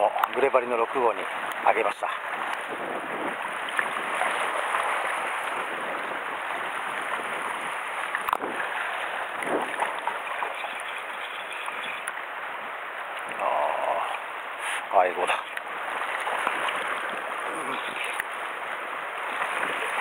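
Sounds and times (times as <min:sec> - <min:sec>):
sea water washing against rocks: 0:00.0 - 0:20.0.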